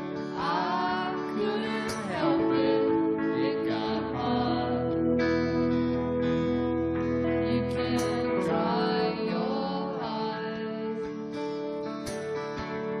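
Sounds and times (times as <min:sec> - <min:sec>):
person singing: 0:00.0 - 0:12.5
strummed acoustic guitar: 0:00.0 - 0:13.0.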